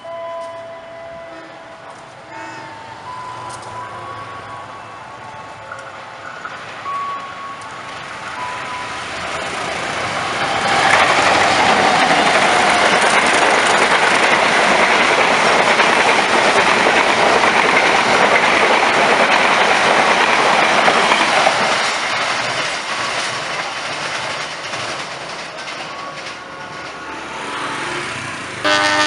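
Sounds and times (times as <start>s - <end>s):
passenger train passing: 0.0s - 29.0s.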